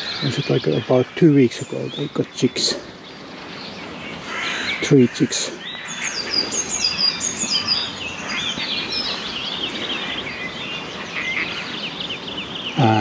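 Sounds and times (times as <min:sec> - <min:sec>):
chatter of bird calls: 0:00.0 - 0:13.0
high falling bird chirps: 0:00.0 - 0:13.0.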